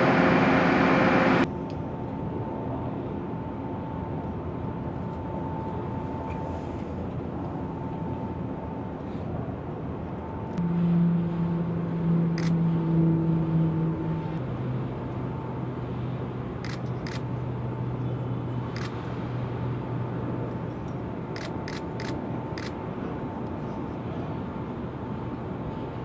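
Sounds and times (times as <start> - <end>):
engine noise with low hum: 0.0 - 26.0.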